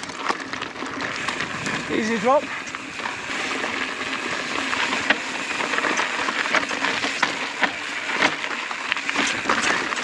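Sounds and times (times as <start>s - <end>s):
bike knocking and rattling: 0.0s - 10.0s
tyres crunching on dirt and stones: 0.0s - 10.0s.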